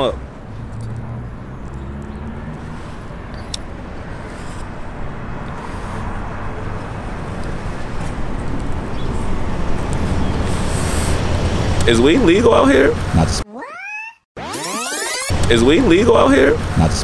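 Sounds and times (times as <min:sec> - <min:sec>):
road traffic passing: 0:00.0 - 0:13.4, 0:14.4 - 0:17.0.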